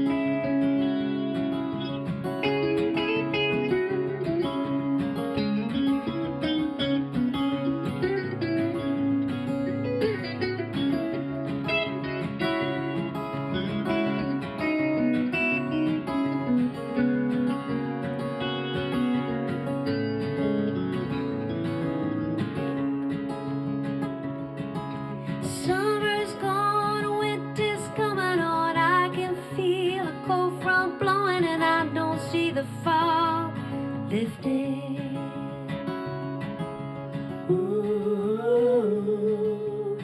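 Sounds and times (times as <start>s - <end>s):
acoustic guitar strumming: 0.0s - 40.0s
picked guitar notes: 0.0s - 40.0s.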